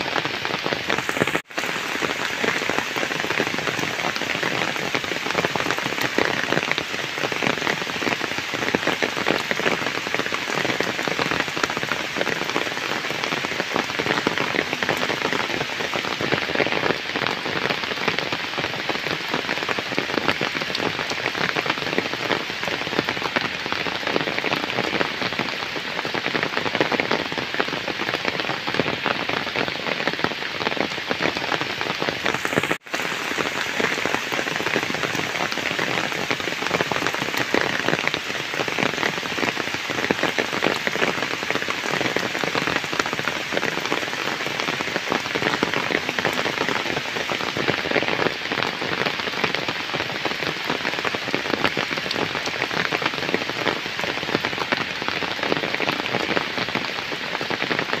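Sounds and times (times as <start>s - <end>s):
heavy rain on puddles: 0.0s - 58.0s.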